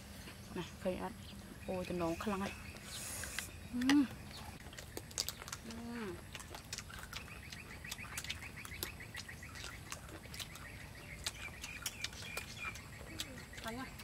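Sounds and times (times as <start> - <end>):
crunching and chewing mango: 2.2 - 14.0.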